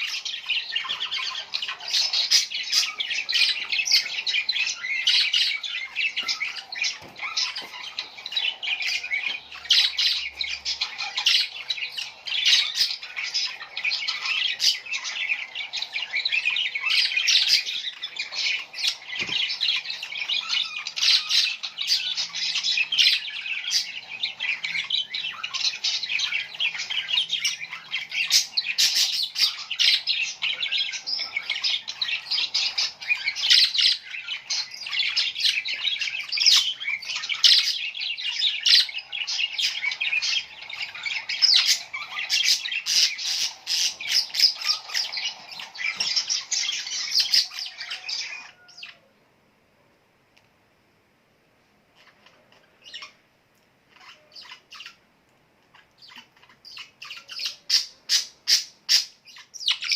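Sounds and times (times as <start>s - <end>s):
small birds chirping and squawking: 0.0s - 49.4s, 51.6s - 59.9s.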